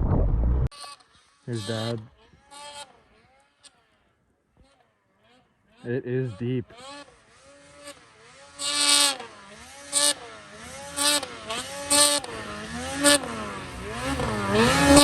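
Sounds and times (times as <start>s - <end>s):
snowmobile engine revving: 0.3s - 15.0s.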